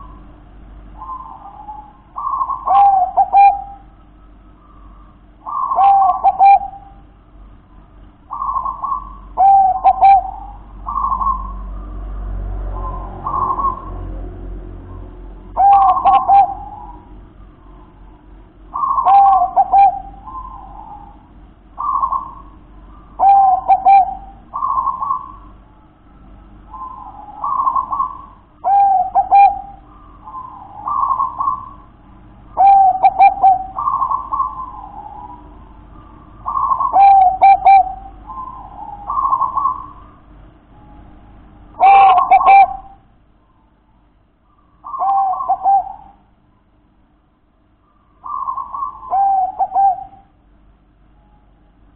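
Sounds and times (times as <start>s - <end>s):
dove cooing: 0.0s - 40.4s, 41.7s - 43.1s, 44.5s - 46.4s, 47.8s - 50.4s.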